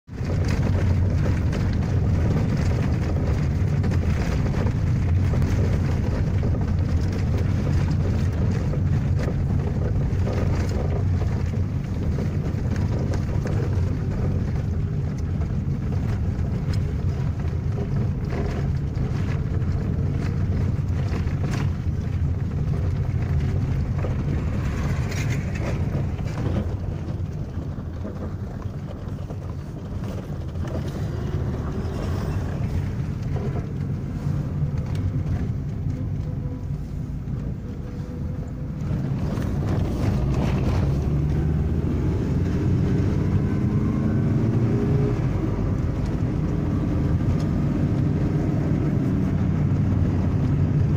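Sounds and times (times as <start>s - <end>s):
car cabin road rumble: 0.0s - 50.9s.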